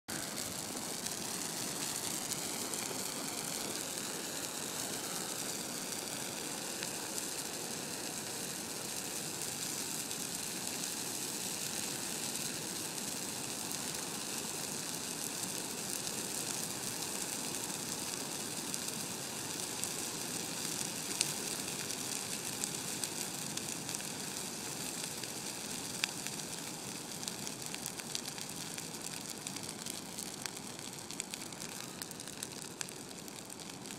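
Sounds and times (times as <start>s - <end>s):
sharp fire pops: 0.1s - 8.3s, 9.6s - 33.9s
crackling of burning branches: 0.1s - 33.9s
hiss of flames: 0.1s - 33.9s.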